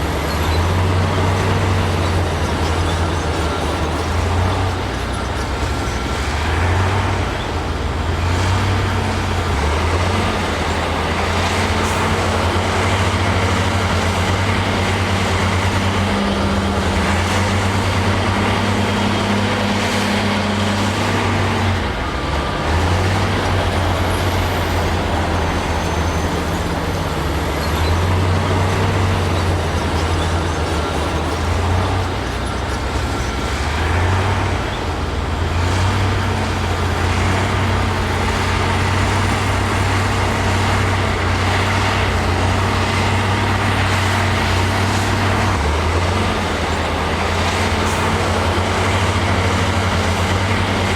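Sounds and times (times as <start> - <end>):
bulldozer diesel engine: 0.0 - 50.9.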